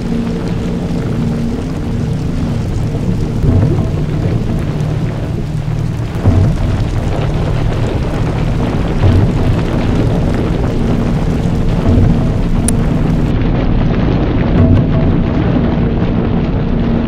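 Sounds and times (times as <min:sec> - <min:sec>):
low rumbling ambient drone: 0:00.0 - 0:17.0.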